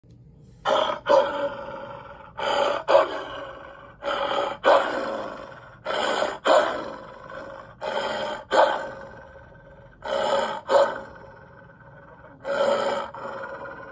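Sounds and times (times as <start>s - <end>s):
cartoon wolf snarl and cry: 0.7s - 13.9s.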